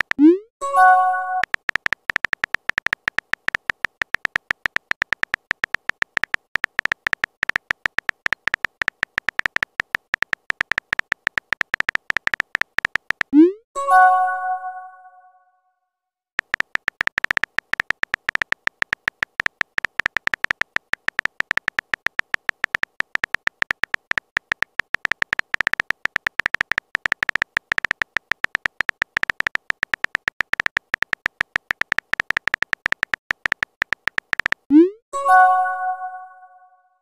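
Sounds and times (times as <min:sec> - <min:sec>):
synthetic typing clicks: 0:00.0 - 0:13.6, 0:16.4 - 0:36.6.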